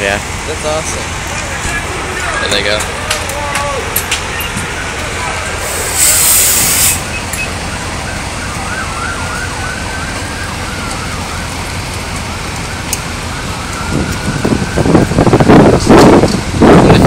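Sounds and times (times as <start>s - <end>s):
fire engines running: 0.0s - 17.0s
emergency siren: 1.5s - 16.7s.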